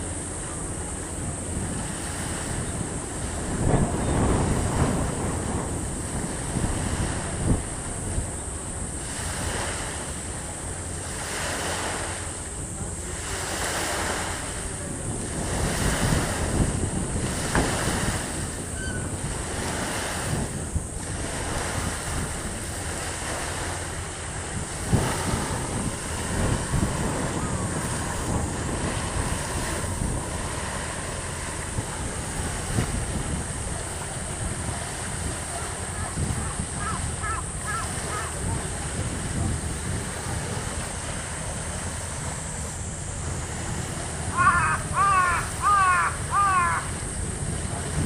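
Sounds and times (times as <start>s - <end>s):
sea: 0.0s - 48.0s
wind on microphone: 0.0s - 48.0s.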